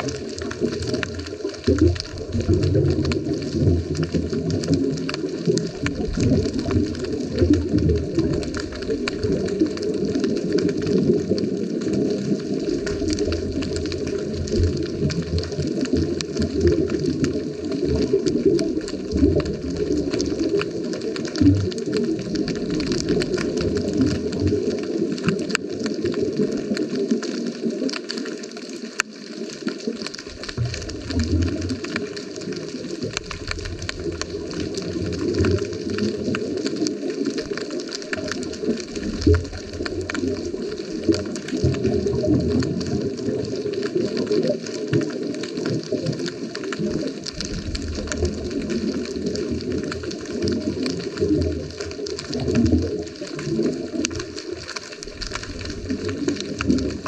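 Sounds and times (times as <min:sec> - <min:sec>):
muffled underwater rumble: 0:00.0 - 0:57.0
small sharp clicks and crackles: 0:00.0 - 0:57.0.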